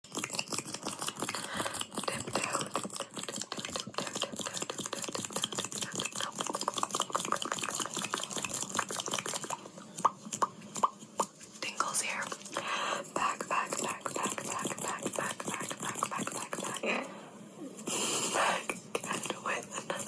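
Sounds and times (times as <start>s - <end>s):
stomach growling: 0.0s - 11.4s, 13.1s - 20.0s.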